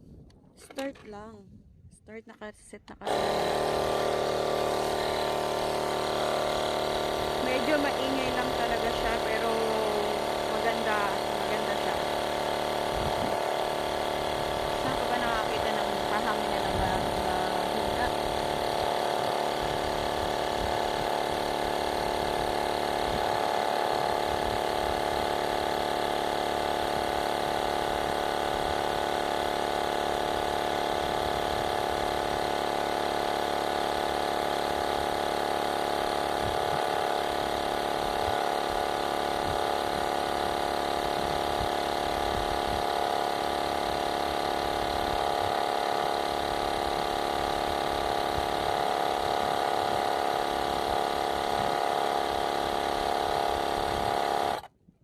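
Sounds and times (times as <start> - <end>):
air compressor running: 3.0 - 54.8.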